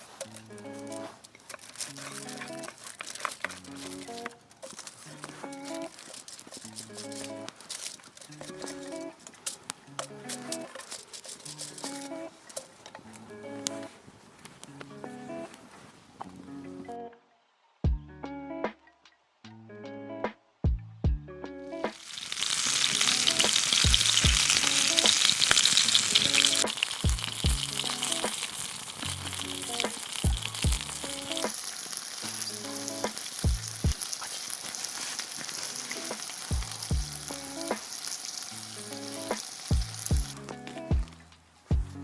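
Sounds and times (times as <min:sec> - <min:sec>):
food sizzling over campfire: 0:00.0 - 0:15.9, 0:21.7 - 0:41.0.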